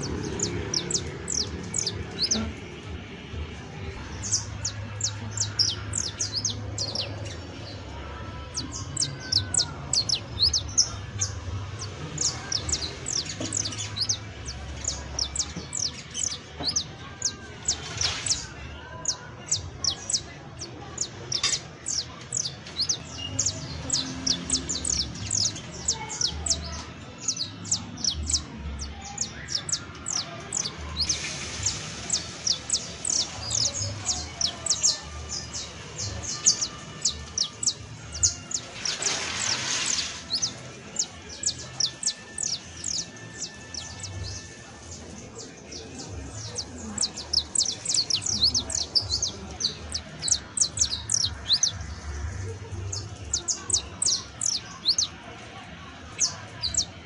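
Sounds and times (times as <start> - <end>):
buzzy bird trill: 0.0 - 2.5, 4.0 - 45.0, 46.2 - 55.1, 56.1 - 56.9
finch chirping: 0.0 - 2.8, 4.0 - 7.8, 8.4 - 45.1, 46.0 - 52.0, 52.8 - 55.1, 56.1 - 56.9.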